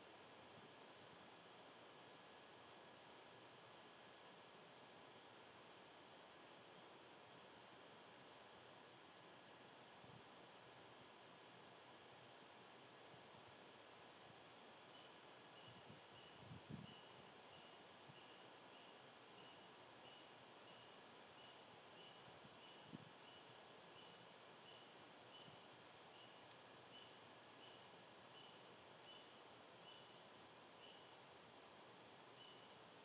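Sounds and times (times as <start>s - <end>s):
cricket chirping: 0.0s - 33.0s
low hiss: 0.0s - 33.0s.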